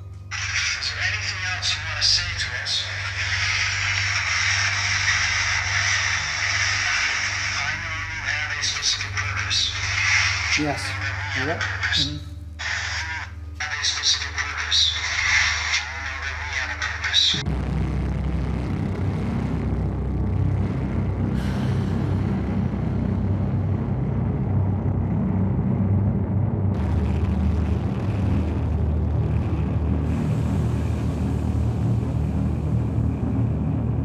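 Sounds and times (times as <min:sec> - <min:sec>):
low rumbling drone: 0:00.0 - 0:34.0.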